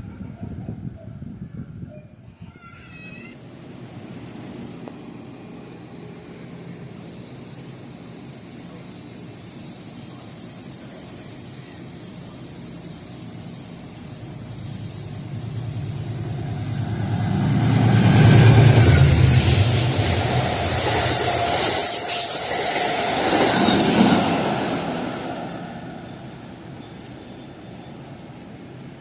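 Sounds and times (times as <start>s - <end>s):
train rail noise: 2.5s - 29.0s
diesel train engine: 3.4s - 29.0s.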